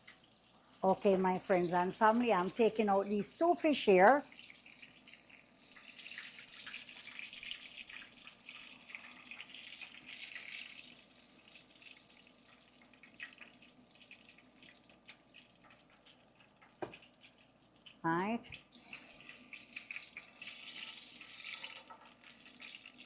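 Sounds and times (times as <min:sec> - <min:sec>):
water running at a sink: 0:00.0 - 0:23.0.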